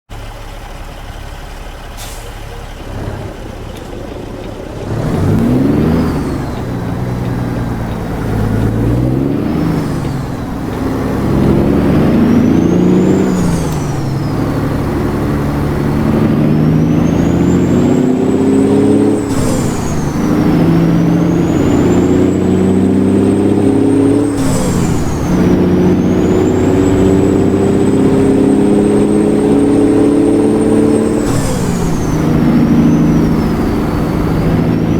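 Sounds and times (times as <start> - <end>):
diesel truck engine idling: 0.1 - 34.9
truck engine shifting gears: 0.1 - 34.9.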